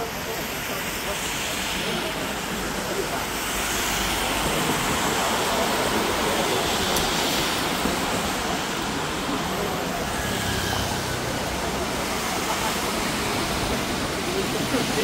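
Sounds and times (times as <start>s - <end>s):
wet street noise hiss: 0.0s - 15.0s.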